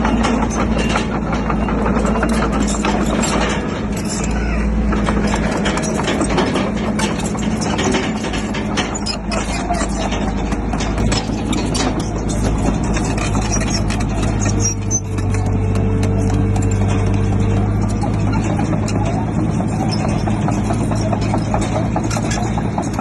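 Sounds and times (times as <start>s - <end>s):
bulldozer diesel engine running: 0.0s - 23.0s
clanking and clattering: 0.0s - 23.0s.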